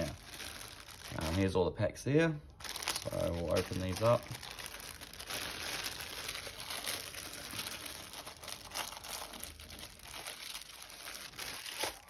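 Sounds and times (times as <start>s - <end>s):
plastic wrappers crinkling: 0.0s - 1.8s, 2.6s - 12.0s.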